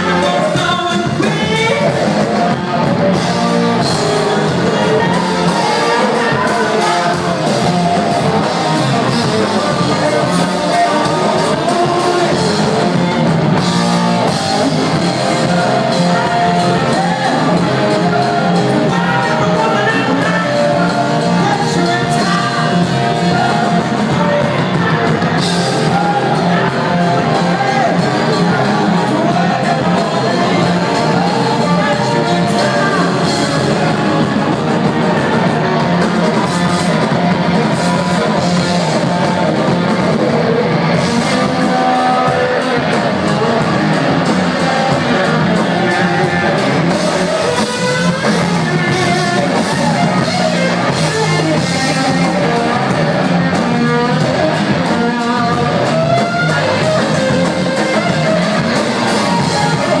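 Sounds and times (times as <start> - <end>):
person singing: 0.0 - 60.0
rock band playing live: 0.0 - 60.0.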